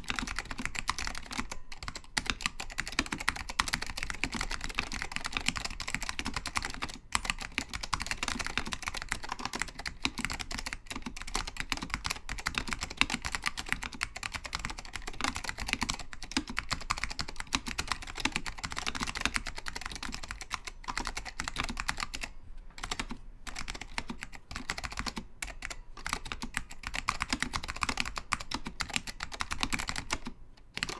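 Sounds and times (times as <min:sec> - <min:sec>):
mechanical keyboard typing: 0:00.0 - 0:30.9.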